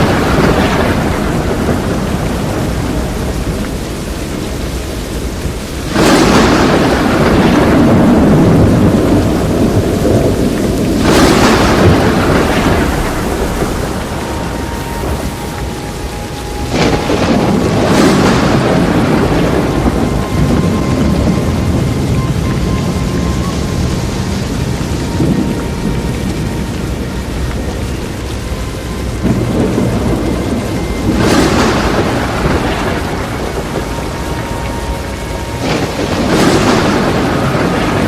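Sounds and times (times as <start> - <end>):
heavy rain: 0.0 - 38.0
thunderclaps: 0.0 - 38.0.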